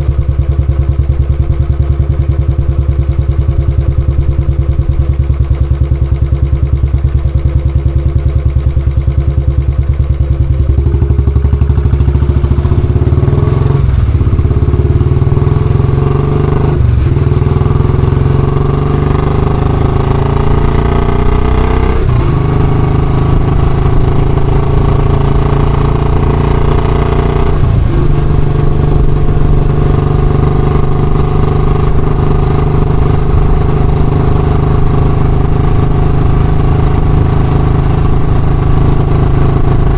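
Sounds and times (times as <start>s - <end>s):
motorcycle engine idling and accelerating: 0.0s - 39.9s.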